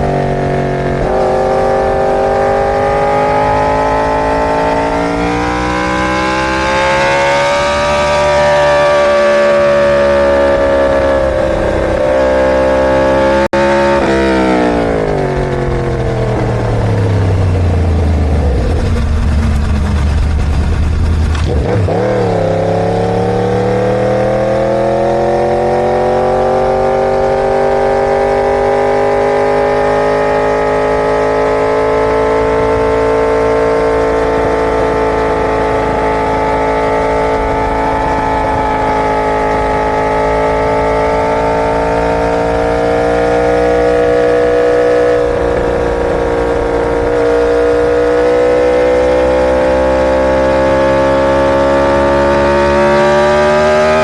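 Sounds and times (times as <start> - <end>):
motorcycle engine revving high: 0.0 - 54.0.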